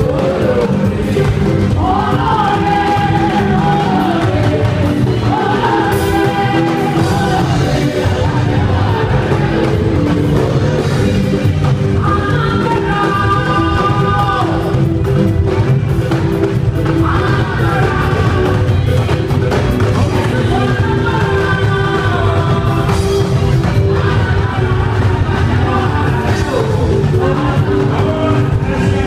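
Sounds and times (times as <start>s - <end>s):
bass and drum backing: 0.0s - 29.0s
person singing: 0.0s - 29.0s.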